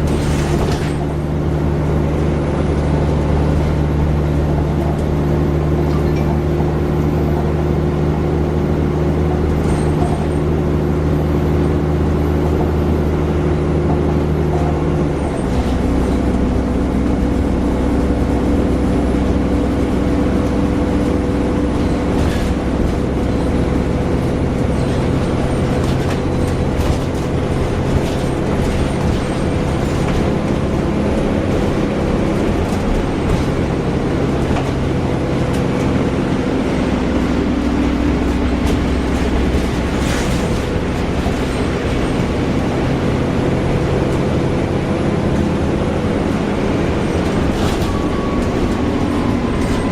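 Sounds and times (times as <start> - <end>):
bus engine droning: 0.0 - 49.9.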